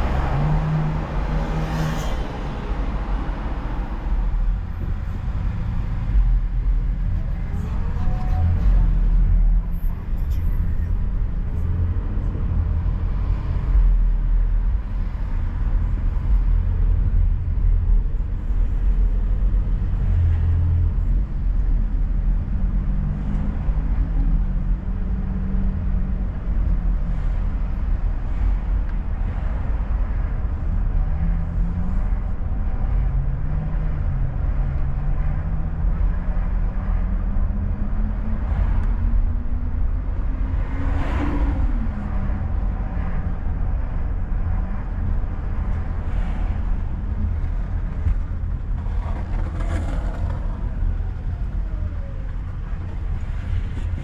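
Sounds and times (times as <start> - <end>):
road rumble: 0.0 - 54.0.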